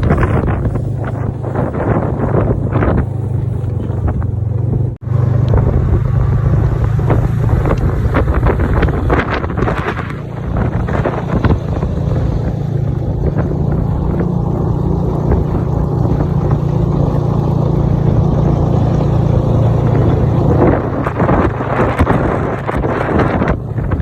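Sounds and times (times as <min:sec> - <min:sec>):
snowmobile engine humming: 0:00.0 - 0:24.0
wind buffeting microphone: 0:00.0 - 0:24.0.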